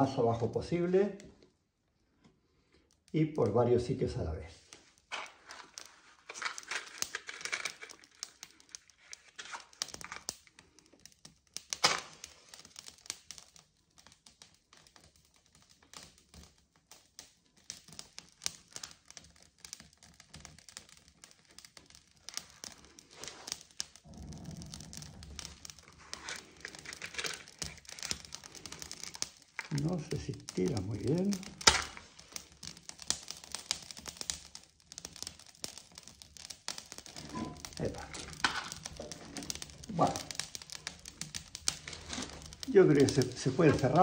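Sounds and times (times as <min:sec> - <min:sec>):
fire crackling in wood stove: 0:00.0 - 0:44.0
matches being struck: 0:04.8 - 0:44.0.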